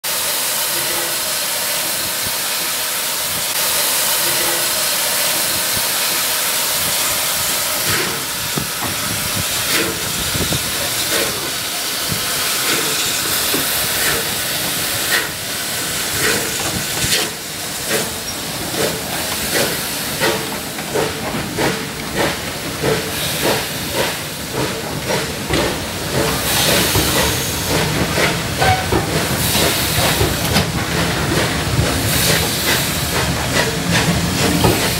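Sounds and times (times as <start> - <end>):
steam hissing: 0.0 - 34.9
steam locomotive exhaust beats: 0.1 - 34.9.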